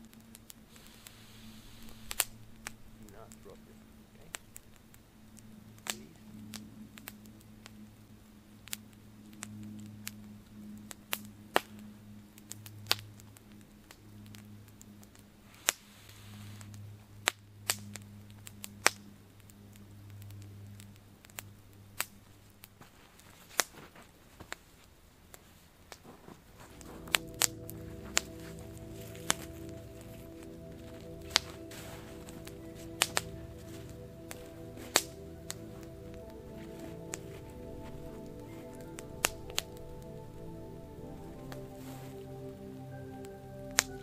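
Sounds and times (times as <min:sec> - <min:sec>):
campfire crackling: 0:00.0 - 0:44.0
faint low hum: 0:00.0 - 0:44.0.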